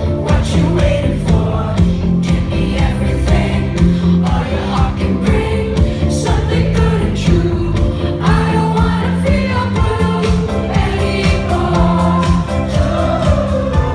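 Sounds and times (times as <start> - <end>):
drum beat: 0.0 - 7.5, 8.3 - 13.9
heavy bass: 0.0 - 13.9
live pop band performing: 0.0 - 13.9
many voices singing: 0.0 - 13.9.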